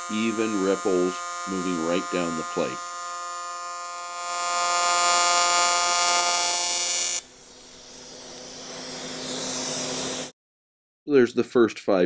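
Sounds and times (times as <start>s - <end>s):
welding arc buzzing: 0.0s - 10.3s.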